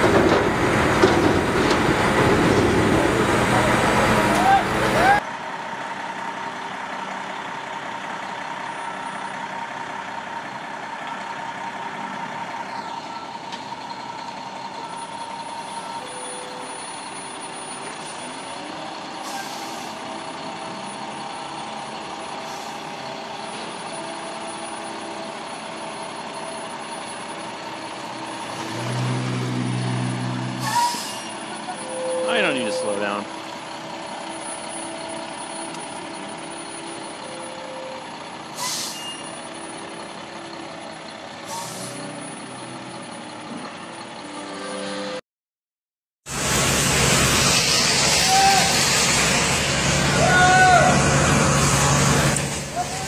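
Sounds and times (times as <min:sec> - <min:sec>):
truck engine drone: 0:00.0 - 0:45.2, 0:46.3 - 0:53.0.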